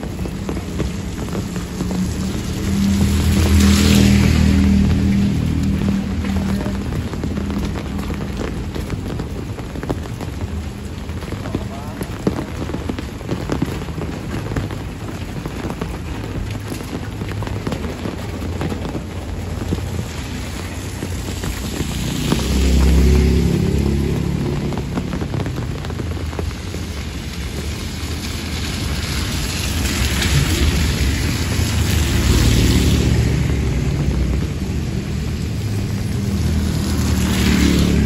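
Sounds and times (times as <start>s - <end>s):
low rumble: 0.0s - 38.0s
steady rain on road and roofs: 0.0s - 38.0s.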